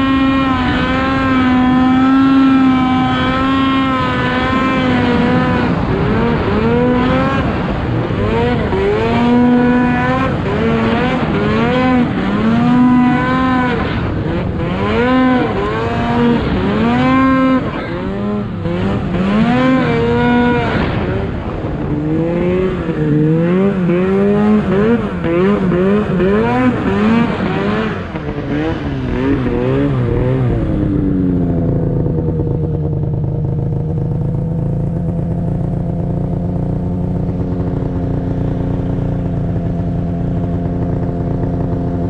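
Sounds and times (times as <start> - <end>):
snowmobile engine revving: 0.0 - 42.0.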